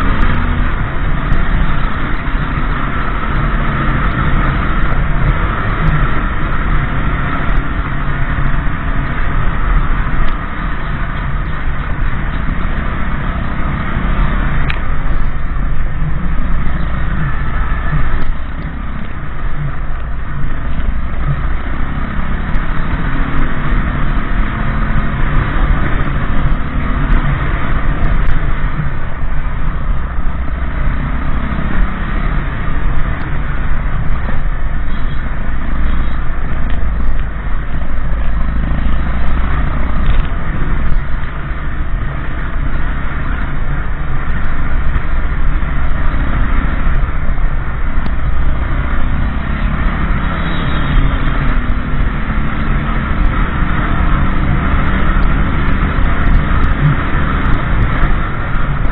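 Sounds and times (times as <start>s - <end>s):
motorbike engine running: 0.0s - 58.9s
road and wind noise: 0.0s - 58.9s.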